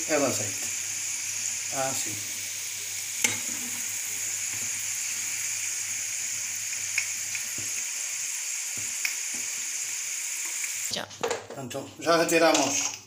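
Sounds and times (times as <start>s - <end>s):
potatoes sizzling in oil: 0.0s - 11.3s, 12.0s - 13.0s.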